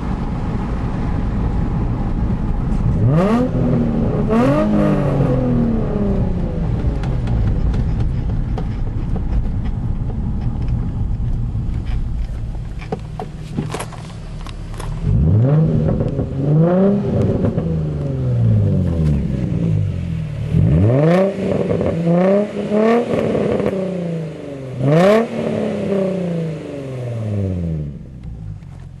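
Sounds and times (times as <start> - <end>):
car engine revving: 0.0 - 29.0
exhaust crack: 0.0 - 29.0.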